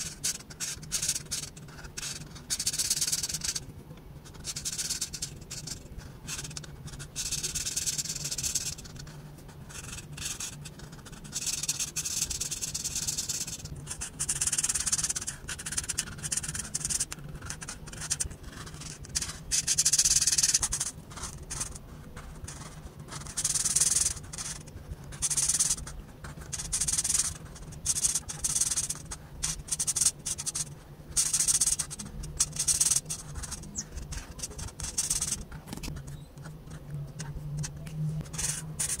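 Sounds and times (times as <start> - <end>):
marker scratching on paper: 0.0 - 39.0.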